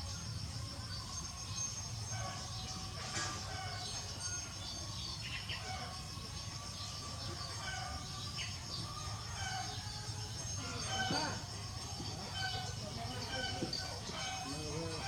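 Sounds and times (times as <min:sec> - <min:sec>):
birds chirping: 0:00.9 - 0:15.0.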